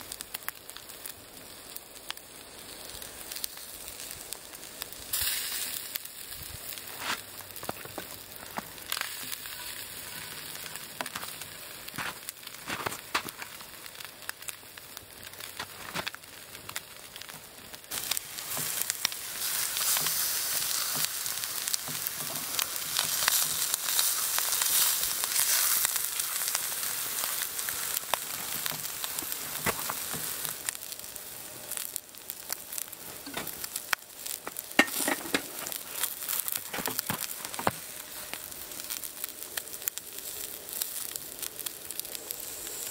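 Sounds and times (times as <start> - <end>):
crackling pops: 0.0 - 42.9
meat sizzling in a skillet: 0.0 - 42.9.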